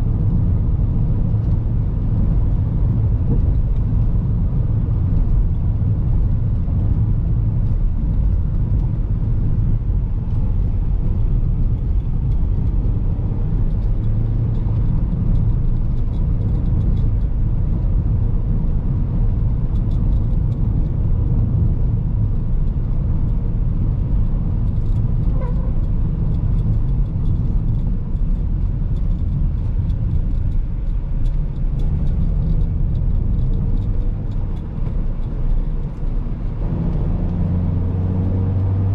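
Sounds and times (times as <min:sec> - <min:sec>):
tyres and suspension rumbling: 0:00.0 - 0:38.9.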